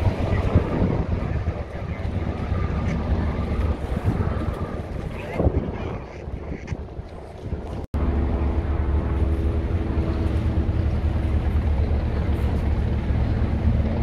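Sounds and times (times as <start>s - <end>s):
helicopter rotor beat: 0.0s - 14.0s
wind noise on microphone: 0.0s - 14.0s.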